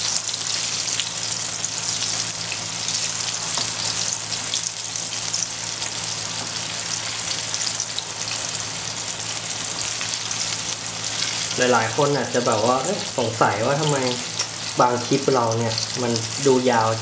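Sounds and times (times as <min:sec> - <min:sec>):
tofu sizzling in oil: 0:00.0 - 0:17.0.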